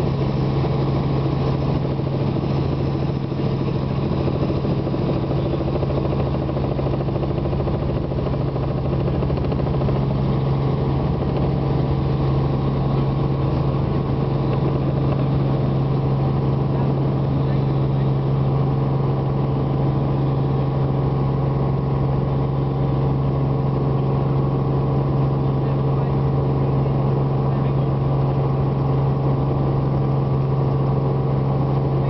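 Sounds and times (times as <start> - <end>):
aircraft cabin engine drone: 0.0 - 32.0.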